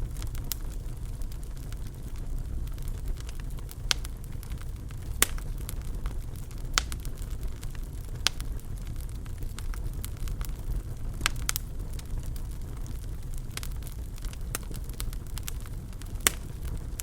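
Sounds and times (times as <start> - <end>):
fire crackling: 0.0 - 17.0
loud fire pops: 0.0 - 17.0
low fire rumble: 0.0 - 17.0.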